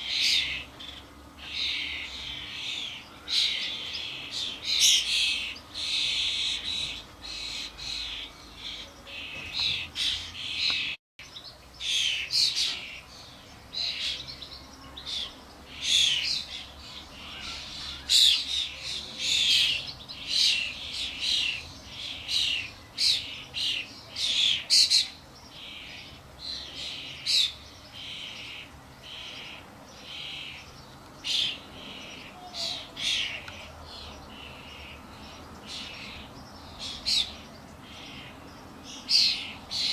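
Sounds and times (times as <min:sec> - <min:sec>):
starlings calling: 0:00.0 - 0:39.9.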